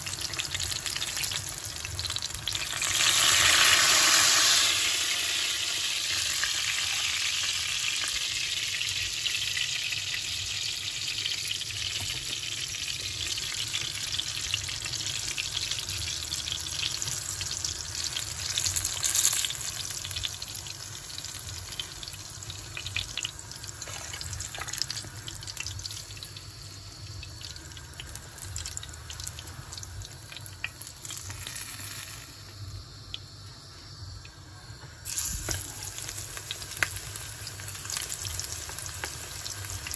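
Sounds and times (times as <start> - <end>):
eggplant sizzling in hot oil: 0.0 - 39.9.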